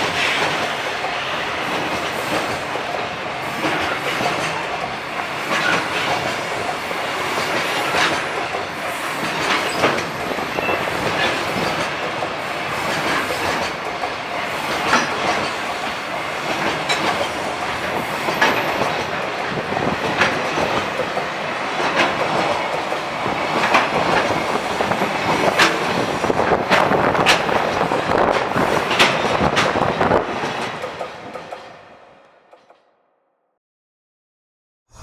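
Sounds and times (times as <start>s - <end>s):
wheels clacking on rail joints: 0.0s - 31.8s
train wheels rumbling on rail: 0.0s - 32.8s.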